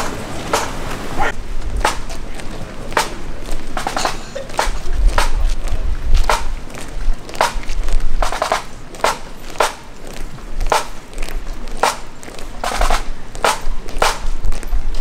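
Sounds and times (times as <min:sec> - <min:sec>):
sharp drum taps marching pace: 0:00.0 - 0:15.0.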